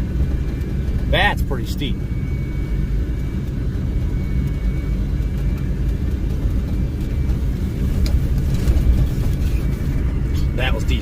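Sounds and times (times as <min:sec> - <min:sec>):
pickup truck engine rumbling: 0:00.0 - 0:11.0.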